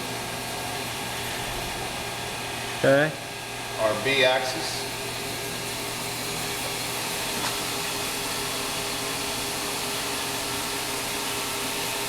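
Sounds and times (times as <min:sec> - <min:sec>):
grinder running hiss: 0:00.0 - 0:12.0.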